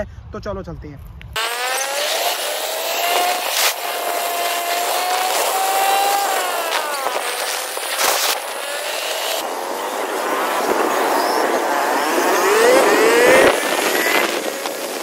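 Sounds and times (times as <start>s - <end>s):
vehicle engine accelerating: 1.4s - 15.0s.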